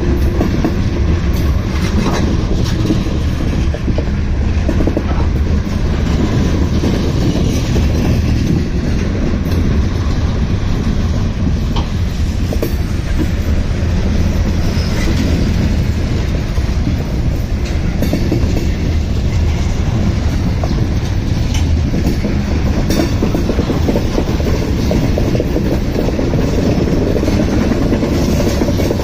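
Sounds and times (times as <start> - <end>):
freight train rumbling past: 0.0 - 29.0
train wheels clacking: 0.0 - 29.0.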